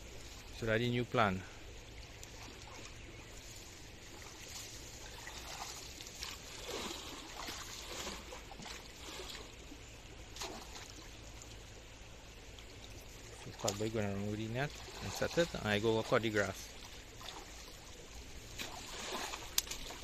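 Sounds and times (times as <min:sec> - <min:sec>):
shallow river water trickling: 0:00.0 - 0:20.0
person wading through water: 0:01.3 - 0:20.0.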